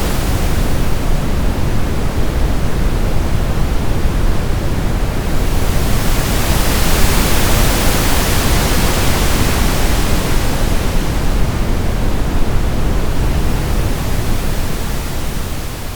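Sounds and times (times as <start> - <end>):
brown noise rumble: 0.0 - 15.9
oscillating pink noise hiss: 0.0 - 15.9.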